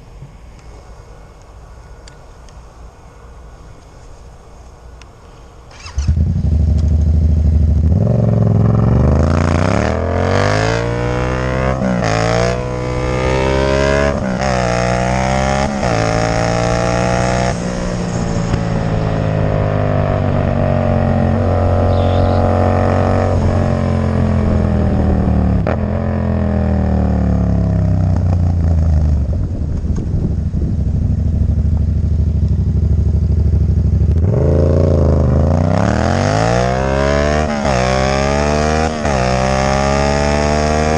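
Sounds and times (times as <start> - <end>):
motorcycle engine accelerating: 5.7 - 40.9.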